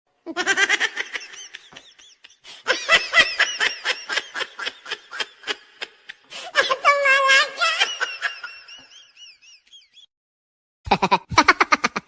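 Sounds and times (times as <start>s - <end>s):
high-pitched laughter: 0.3s - 9.9s, 10.9s - 12.0s.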